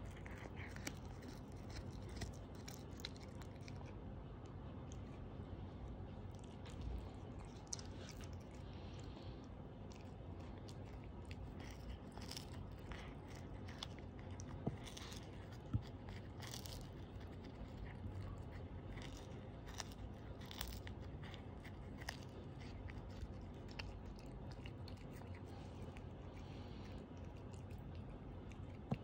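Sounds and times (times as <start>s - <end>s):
cat chewing and crunching fish: 0.0s - 29.0s.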